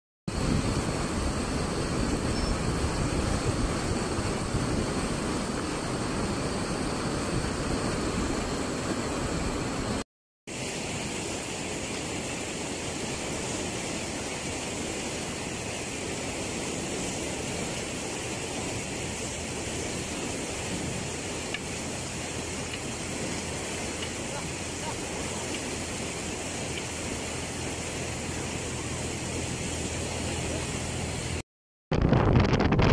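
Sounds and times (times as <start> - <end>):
hissing canal flow: 0.3 - 31.4
water rushing from outlet: 0.3 - 31.4.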